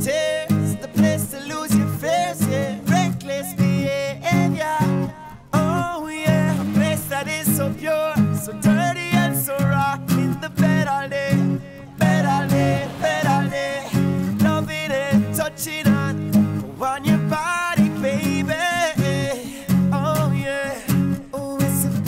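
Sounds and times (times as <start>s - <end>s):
guitar song with pulsing bass: 0.0s - 22.0s.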